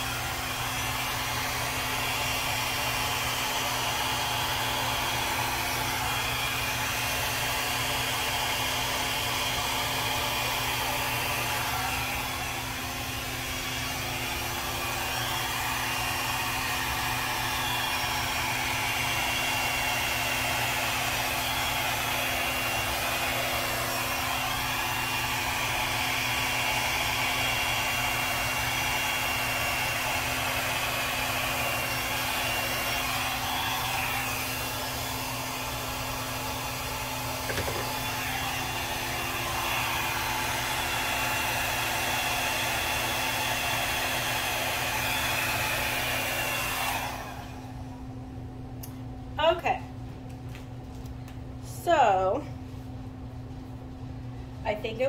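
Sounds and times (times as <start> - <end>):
hair dryer blowing: 0.0 - 49.8, 51.7 - 52.6, 54.6 - 55.0.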